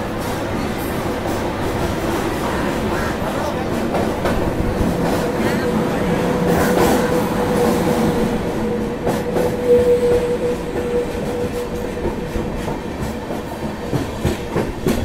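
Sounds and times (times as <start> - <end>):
rail wheels clattering: 0.0 - 15.0
train rumble: 0.0 - 15.0.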